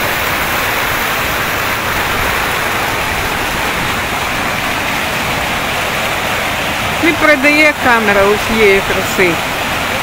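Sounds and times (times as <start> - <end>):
fountain jets splashing: 0.0 - 10.0.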